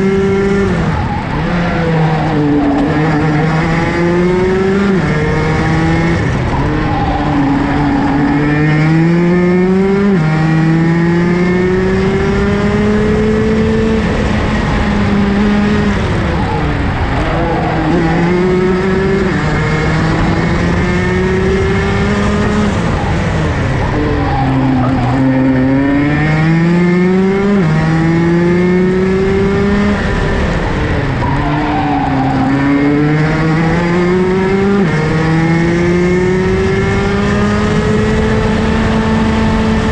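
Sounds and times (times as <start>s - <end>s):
kart engine at racing speed: 0.0s - 39.9s.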